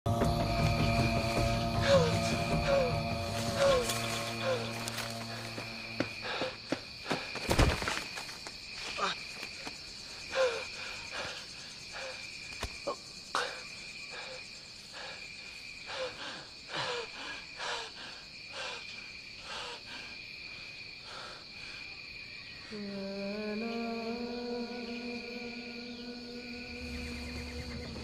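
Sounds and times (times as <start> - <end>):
insects droning: 0.1 - 28.0.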